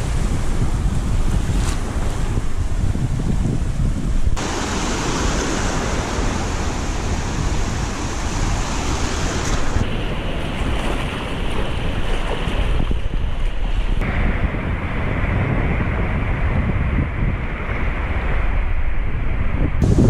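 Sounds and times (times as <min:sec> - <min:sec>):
sea surf washing in: 0:00.0 - 0:20.0
wind buffeting microphone: 0:00.0 - 0:20.0.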